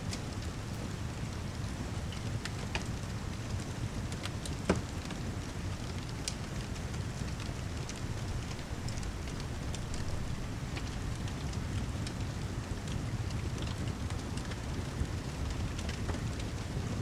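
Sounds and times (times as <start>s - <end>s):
rain: 0.0s - 17.0s
fireplace crackling and popping: 0.1s - 17.0s.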